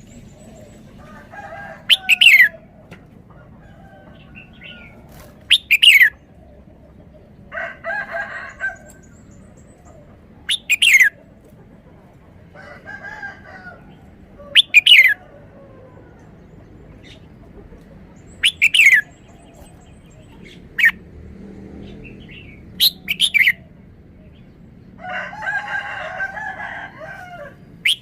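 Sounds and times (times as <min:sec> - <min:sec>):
low chattering bird calls: 0:00.0 - 0:21.0, 0:21.8 - 0:24.8.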